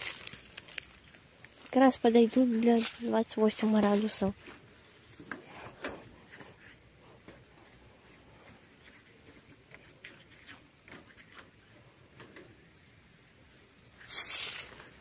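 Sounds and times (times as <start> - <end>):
paintbrush brushing on metal: 2.0 - 15.0.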